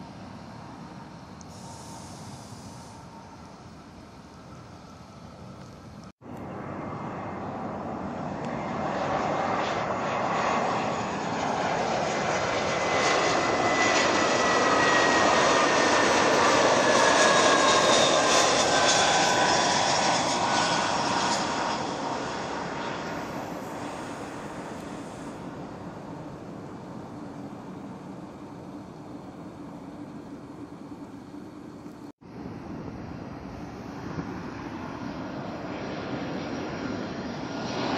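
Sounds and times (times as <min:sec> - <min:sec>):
jet airliner passing: 0:00.0 - 0:37.9.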